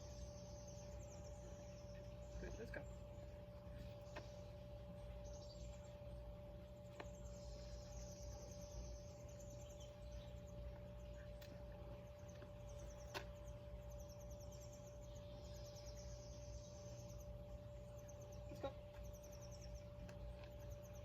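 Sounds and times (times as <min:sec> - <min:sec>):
birds chirping in trills: 0:00.0 - 0:21.0
steady low hum: 0:00.0 - 0:21.0.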